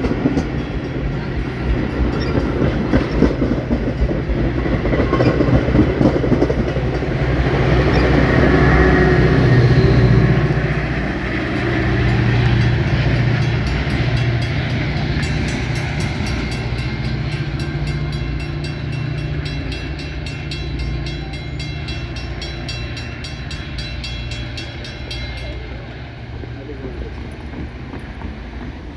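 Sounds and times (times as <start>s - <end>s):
diesel train engine drone: 0.0s - 28.9s
wheels rumbling on rail: 0.0s - 28.9s.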